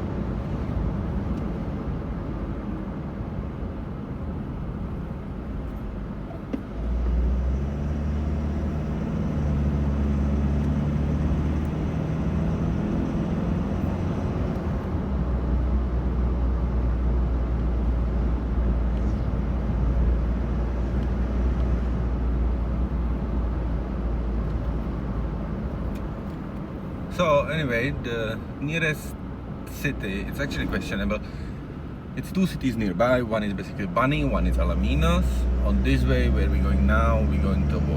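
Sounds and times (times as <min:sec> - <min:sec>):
vehicle engine and road noise: 0:00.0 - 0:37.9.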